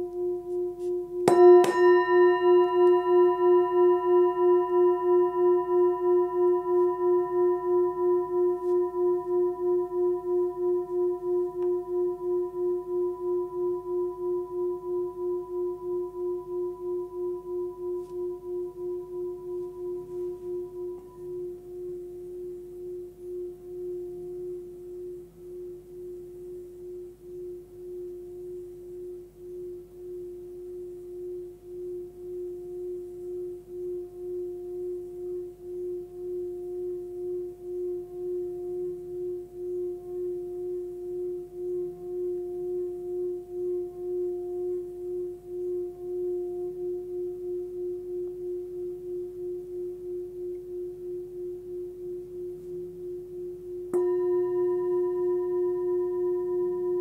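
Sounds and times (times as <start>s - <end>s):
singing bowl humming: 0.0s - 57.0s.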